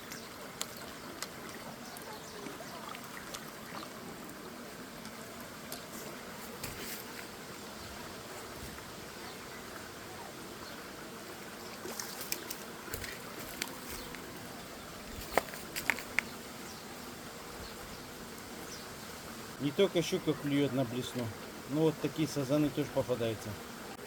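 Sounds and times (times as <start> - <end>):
outdoor background hiss: 0.0 - 24.0
faint buzzing: 3.2 - 24.0.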